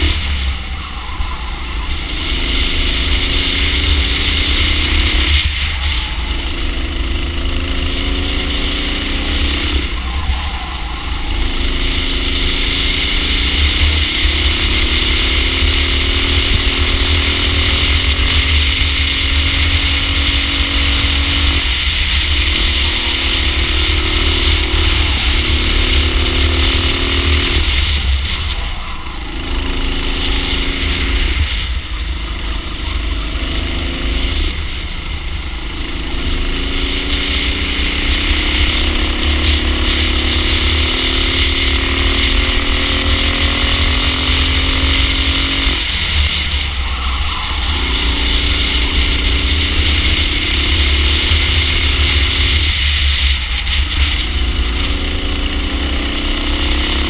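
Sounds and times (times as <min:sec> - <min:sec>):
low rumble: 0:00.0 - 0:55.7
kart engine at full throttle: 0:00.0 - 0:57.0.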